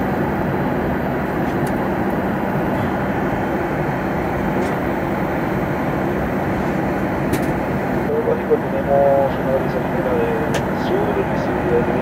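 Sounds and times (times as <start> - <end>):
airliner cabin noise: 0.0 - 12.0
engine low hum: 0.0 - 12.0.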